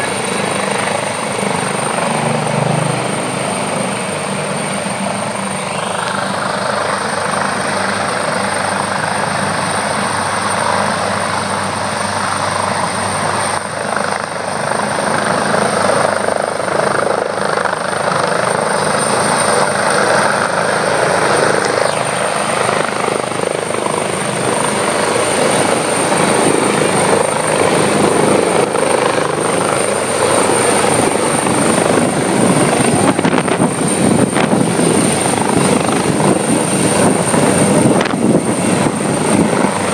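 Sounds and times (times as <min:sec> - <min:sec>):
helicopter rotor beating: 0:00.0 - 0:39.9
helicopter turbine whine: 0:00.0 - 0:39.9.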